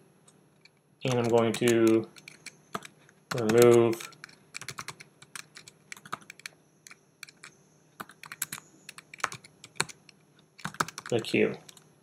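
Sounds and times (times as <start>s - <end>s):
keyboard typing clicks: 1.0s - 11.9s.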